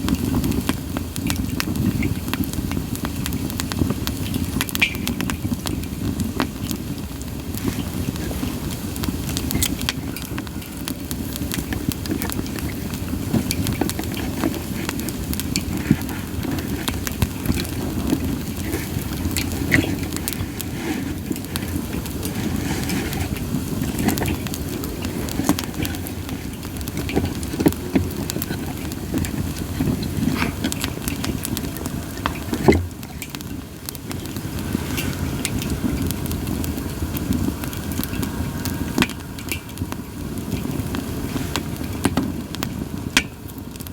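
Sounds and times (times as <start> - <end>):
campfire flames rushing: 0.0 - 43.9
fire crackles and pops: 0.0 - 43.9.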